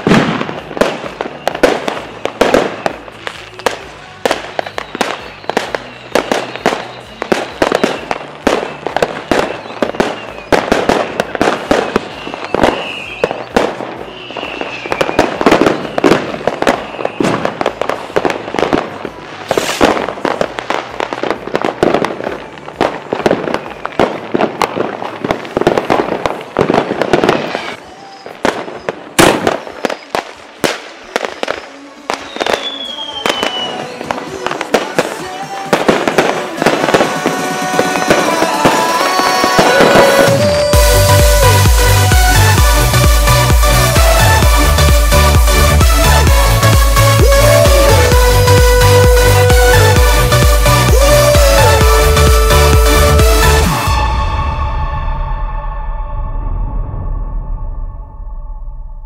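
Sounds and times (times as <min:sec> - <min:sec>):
fireworks bangs and crackles: 0:00.0 - 0:55.8.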